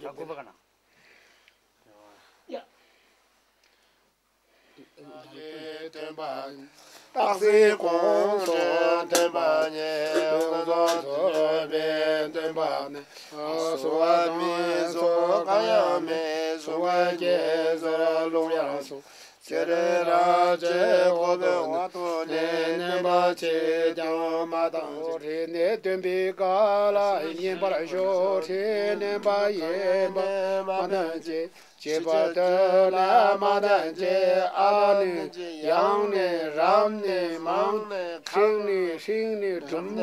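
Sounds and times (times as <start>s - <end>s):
person chanting sing-song: 5.0s - 40.0s.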